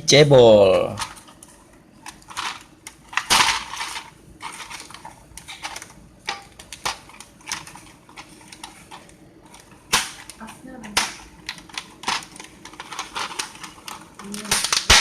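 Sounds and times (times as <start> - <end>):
plastic packaging crinkling: 0.9 - 15.0.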